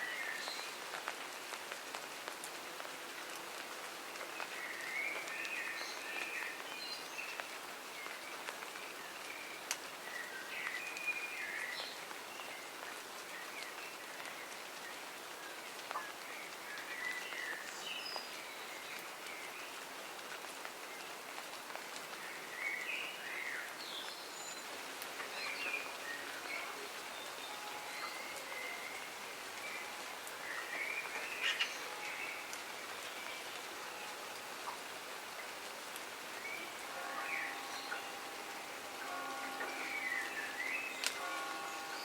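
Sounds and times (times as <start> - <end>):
steady rain: 0.0 - 42.0
small birds chirping: 4.3 - 42.0.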